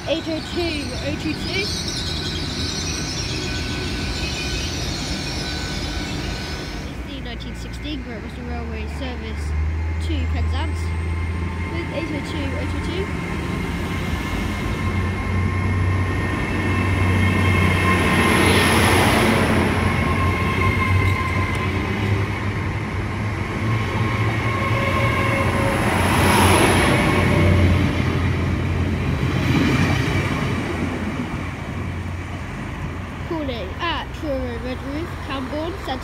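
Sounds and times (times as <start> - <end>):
train passing by: 0.0 - 36.0.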